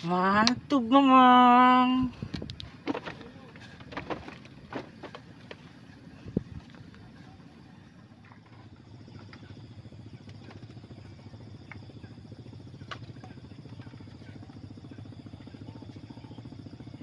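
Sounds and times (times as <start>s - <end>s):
small engine puttering: 1.7s - 17.0s.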